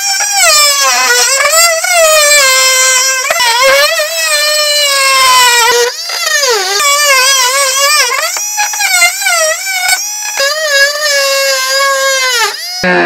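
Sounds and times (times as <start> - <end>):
oscillating multi-tool cutting wood: 0.0 - 13.0.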